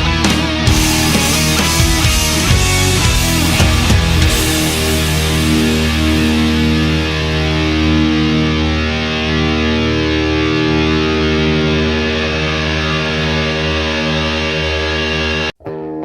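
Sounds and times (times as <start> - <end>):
distorted electric guitar music: 0.0 - 16.0.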